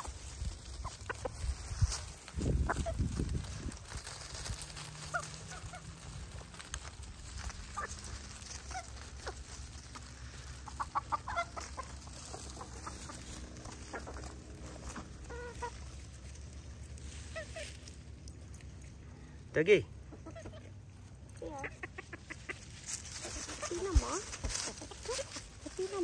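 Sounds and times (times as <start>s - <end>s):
chickens clucking: 0.0s - 18.2s, 19.9s - 26.0s.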